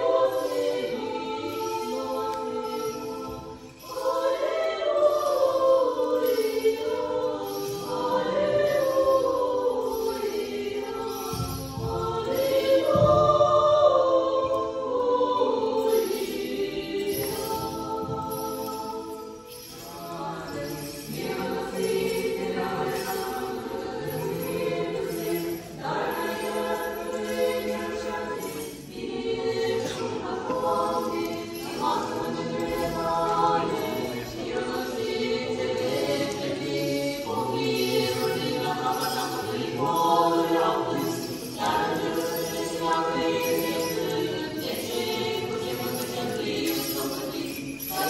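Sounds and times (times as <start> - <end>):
choir singing chant: 0.0 - 48.0.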